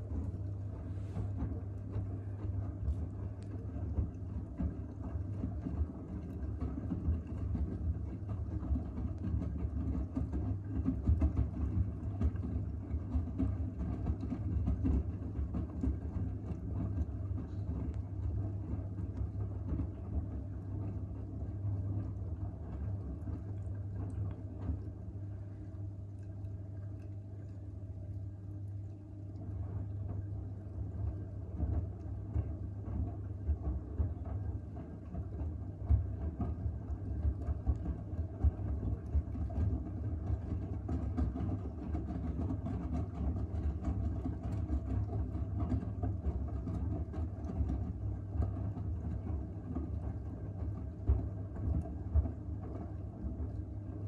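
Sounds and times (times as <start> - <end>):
washing machine hum: 0.0 - 54.0
water sloshing in washing machine: 0.0 - 54.0.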